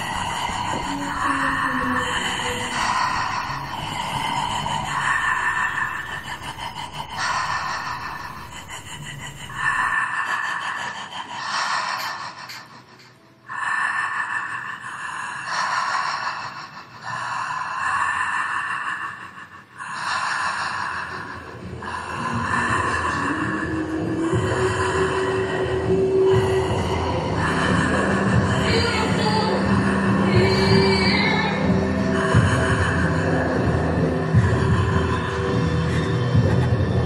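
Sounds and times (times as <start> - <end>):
person breathing heavily: 0.0 - 37.0.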